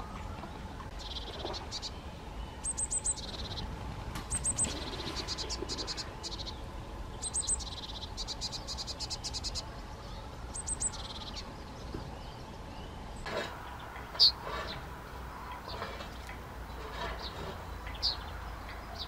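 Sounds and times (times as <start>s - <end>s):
finch singing rapid trills: 0.9s - 19.0s.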